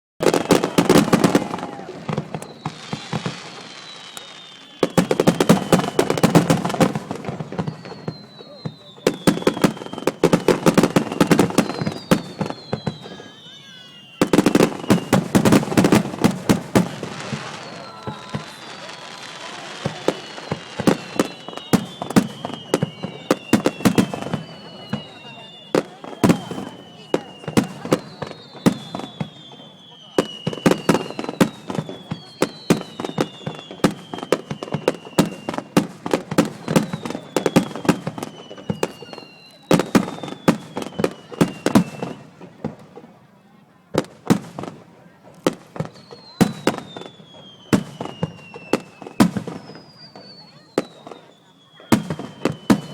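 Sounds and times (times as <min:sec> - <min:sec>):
firework whistle sliding down: 0:00.2 - 0:35.8, 0:36.4 - 0:42.3, 0:46.0 - 0:52.9
fireworks bursting: 0:00.2 - 0:52.9.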